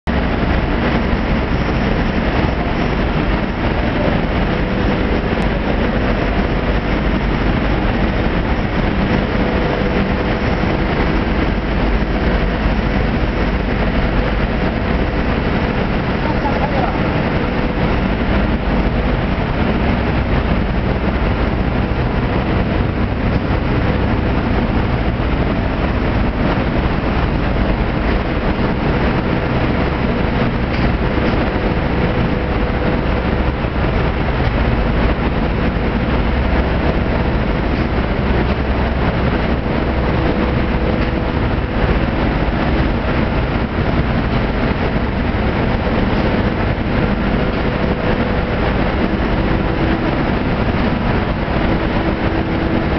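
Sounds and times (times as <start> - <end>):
loud coating machine noise: 0.0 - 52.9.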